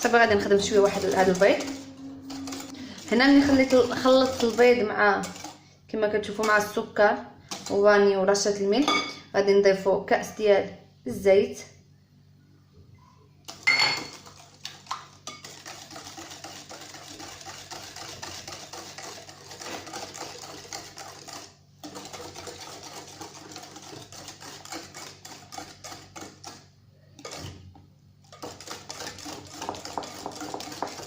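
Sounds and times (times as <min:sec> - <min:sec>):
whisk beating in a bowl: 0:00.0 - 0:08.6, 0:13.5 - 0:31.0.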